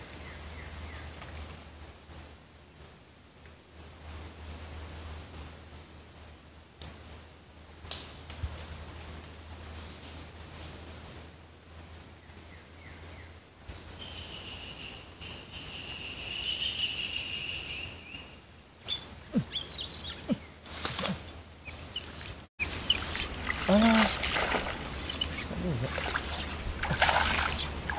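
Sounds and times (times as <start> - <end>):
insects droning and chirping: 0.0 - 27.9.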